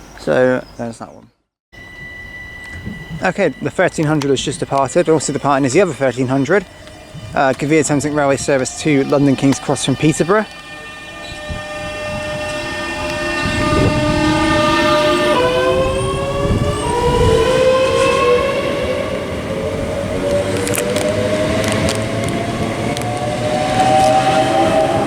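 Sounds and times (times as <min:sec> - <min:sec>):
electric train motor whine: 0:01.8 - 0:25.0
train rolling rumble: 0:01.8 - 0:25.0.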